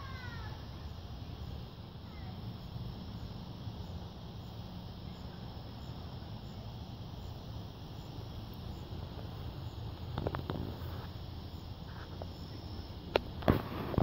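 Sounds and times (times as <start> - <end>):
faint high insect chirp: 0.0 - 14.0.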